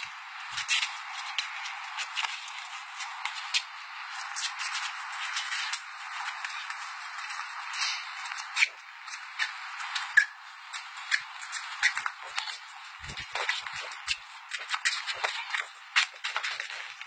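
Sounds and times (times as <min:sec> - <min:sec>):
steady hiss: 0:00.0 - 0:16.0
sneakers scuffing on concrete: 0:00.0 - 0:17.0.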